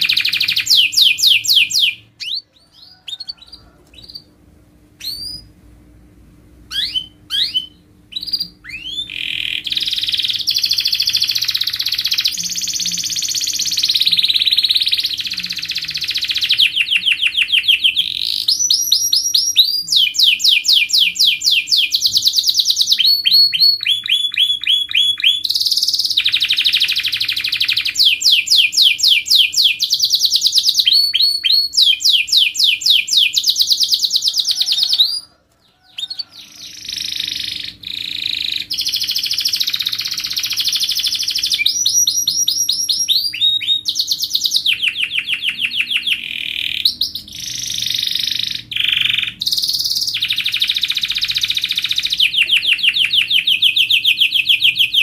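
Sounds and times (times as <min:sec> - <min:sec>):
canary singing rolled trills: 0:00.0 - 0:05.6, 0:06.6 - 0:55.0.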